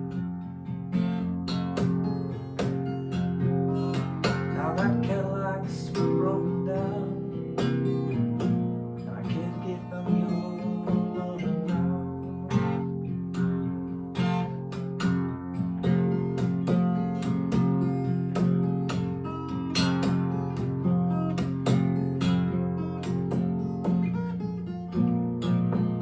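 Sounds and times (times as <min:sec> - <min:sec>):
acoustic blues guitar: 0:00.0 - 0:26.0.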